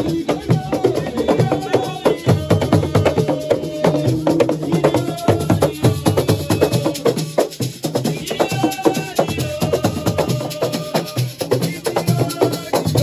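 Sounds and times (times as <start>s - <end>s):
fast percussion drumming: 0.0s - 13.0s.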